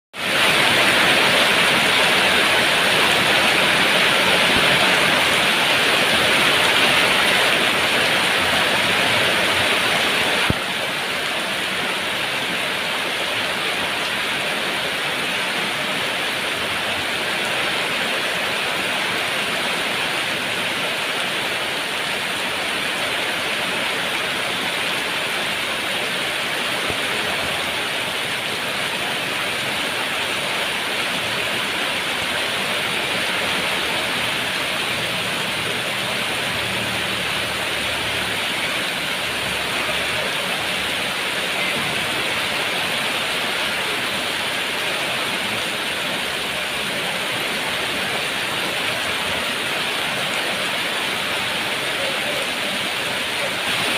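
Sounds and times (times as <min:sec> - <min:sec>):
heavy rain pouring: 0:00.1 - 0:53.9.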